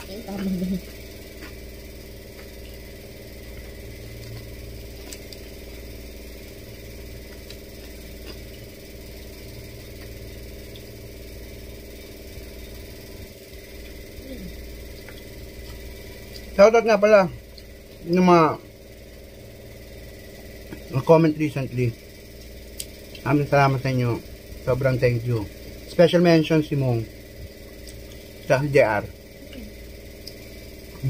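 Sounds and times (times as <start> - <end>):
electric motor humming: 0.0 - 31.0.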